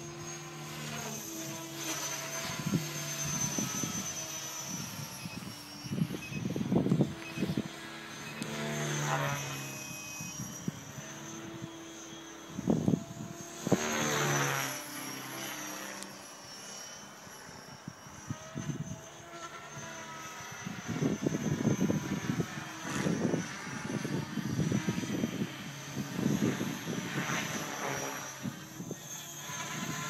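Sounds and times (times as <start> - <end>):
model helicopter passing overhead: 0.0 - 30.0.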